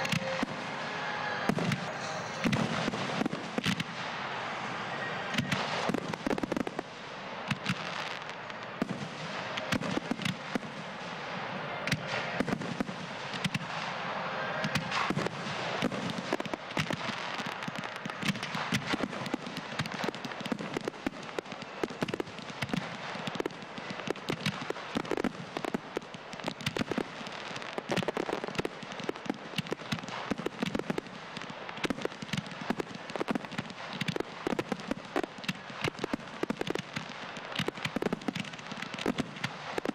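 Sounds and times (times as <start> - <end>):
firework shots and bursting pops: 0.0 - 39.9.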